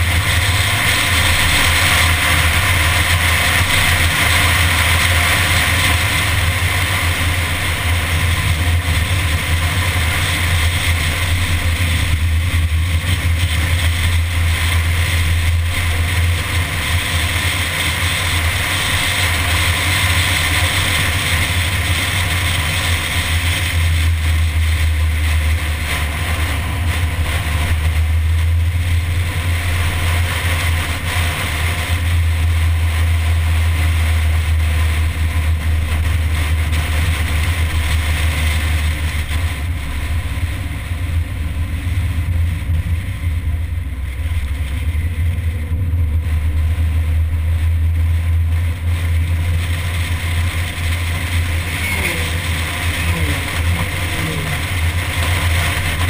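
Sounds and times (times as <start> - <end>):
car engine droning: 0.0 - 56.0
wind and road noise: 0.0 - 56.0.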